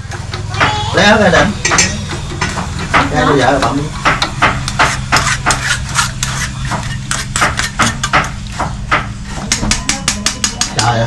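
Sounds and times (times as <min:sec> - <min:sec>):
knife chopping on board: 0:01.7 - 0:11.0.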